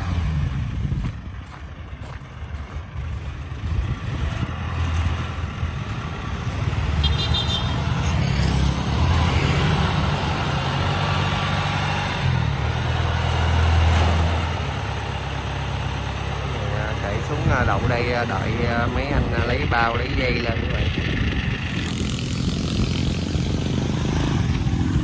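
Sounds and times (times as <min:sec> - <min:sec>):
tracked vehicle engines running: 0:00.0 - 0:25.0.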